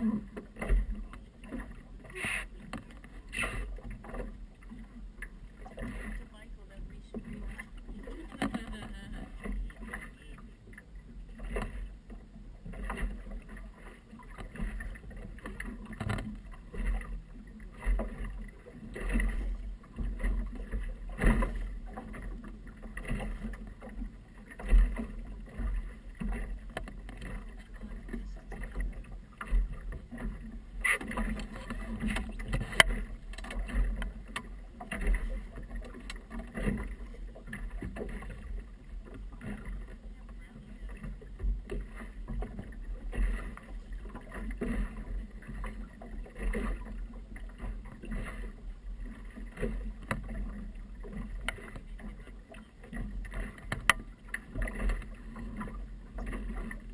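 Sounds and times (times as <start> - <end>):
waves slapping against boat hull: 0.0 - 56.9.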